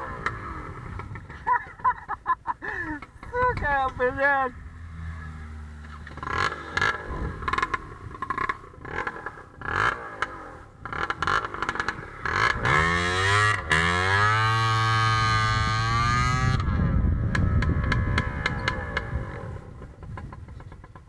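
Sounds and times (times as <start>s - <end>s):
motorcycle engine accelerating: 0.0s - 1.9s, 3.0s - 21.0s
choppy riding noise: 0.0s - 21.0s.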